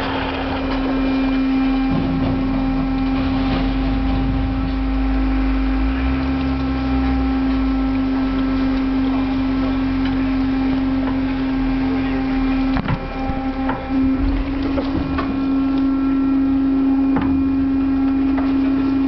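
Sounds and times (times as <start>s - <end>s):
waste compactor humming: 0.0s - 19.0s
water gushing across steel floor: 0.0s - 19.0s.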